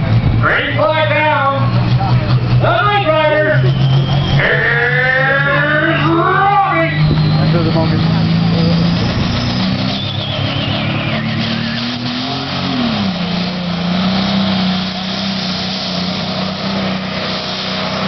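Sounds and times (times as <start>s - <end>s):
high whine: 0.0s - 18.0s
tractor diesel engine running hard: 0.0s - 18.0s.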